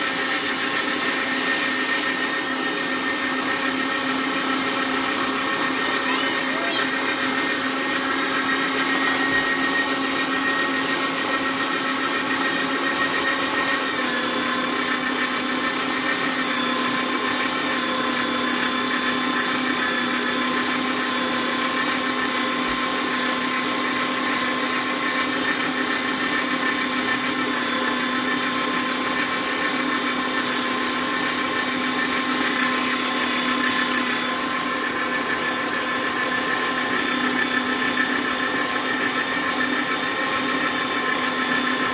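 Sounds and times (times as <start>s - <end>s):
meat grinder motor whirring: 0.0s - 41.9s.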